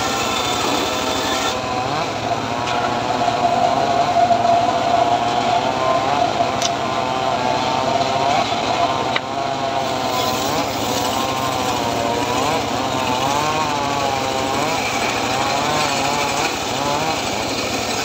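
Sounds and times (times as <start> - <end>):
circular saw blade whine: 0.0 - 18.0
engine running: 0.0 - 18.0.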